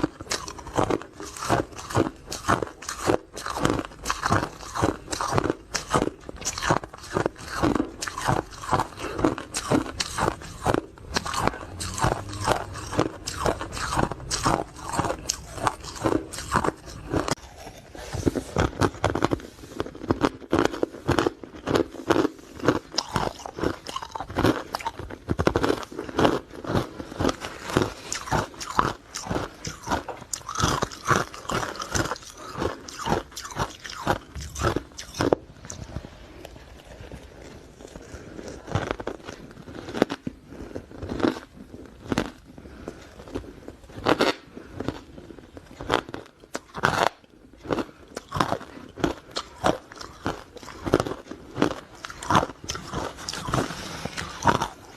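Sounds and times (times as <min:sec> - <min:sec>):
ice cubes being chewed: 0:00.0 - 0:54.9.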